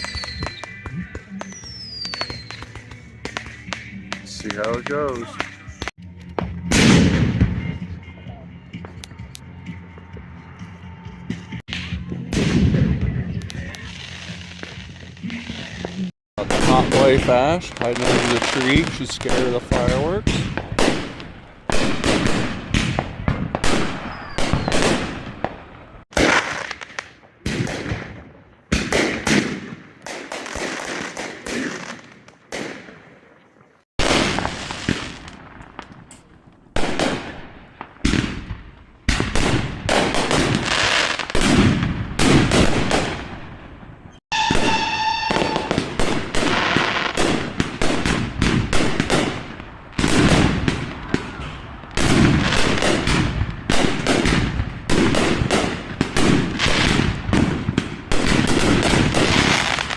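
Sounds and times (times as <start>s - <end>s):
fireworks bangs and crackling: 0.0s - 10.2s, 11.2s - 59.9s.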